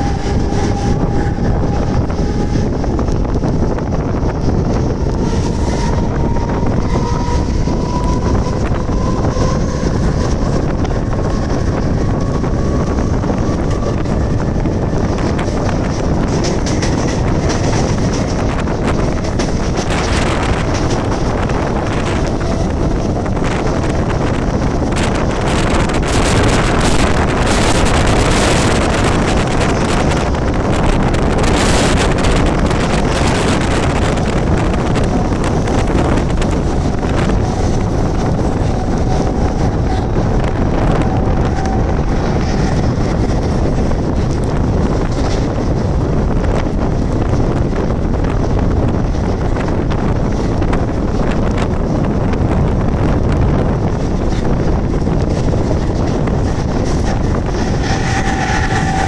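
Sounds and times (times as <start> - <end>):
train running on rails: 0.0 - 59.0
wind buffeting microphone: 0.0 - 59.0.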